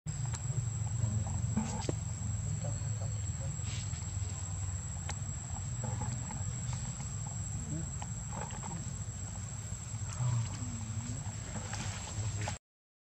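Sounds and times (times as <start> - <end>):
high-pitched insect drone: 0.1 - 12.4
low rumble: 0.1 - 12.6
faint clicks and rustles: 0.2 - 12.6.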